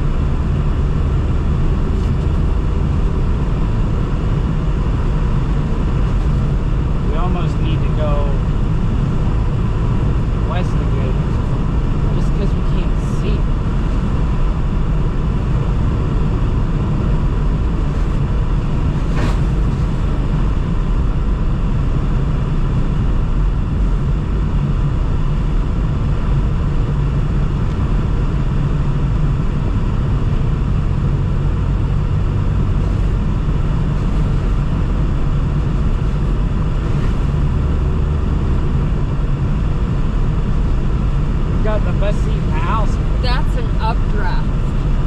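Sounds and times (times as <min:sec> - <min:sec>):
car road and engine noise: 0:00.0 - 0:45.0.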